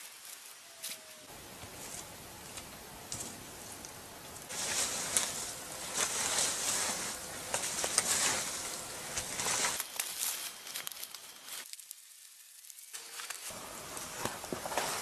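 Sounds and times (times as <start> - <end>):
leaves and twigs rustling and snapping: 0.0 - 15.0
branch pushed over forest floor: 1.7 - 15.0.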